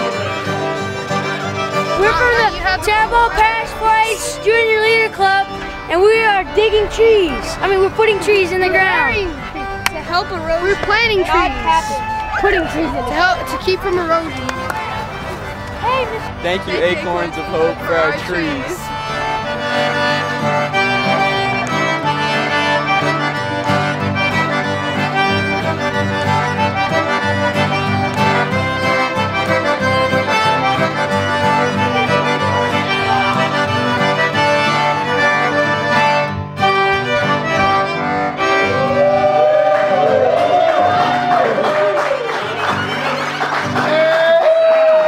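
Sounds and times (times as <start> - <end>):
button accordion: 0.0 - 39.4, 42.3 - 43.9
acoustic guitar: 0.0 - 44.2
fiddle: 0.0 - 45.0.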